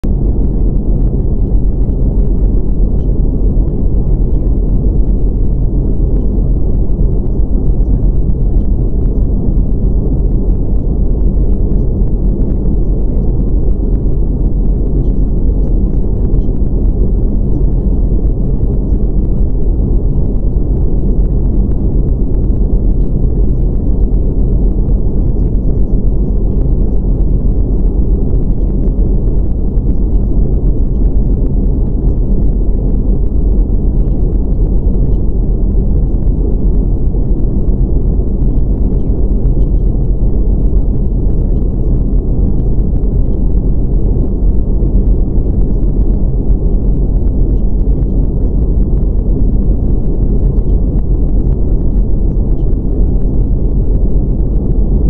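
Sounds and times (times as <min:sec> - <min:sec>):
deep rumbling noise: 0:00.0 - 0:55.0.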